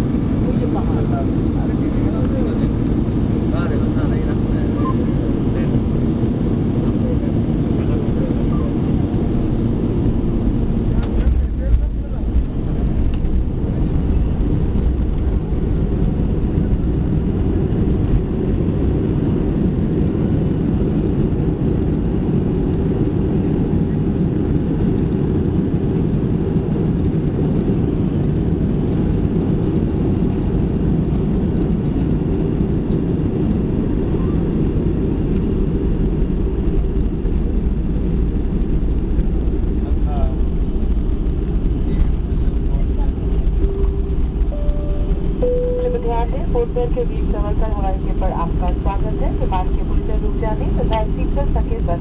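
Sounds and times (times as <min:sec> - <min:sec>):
jet engine rumble in cabin: 0:00.0 - 0:52.0.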